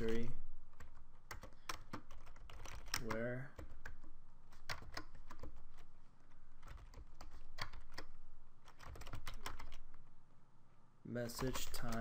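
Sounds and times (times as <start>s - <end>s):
computer keyboard typing: 0.0s - 5.9s, 6.6s - 10.0s, 11.2s - 12.0s.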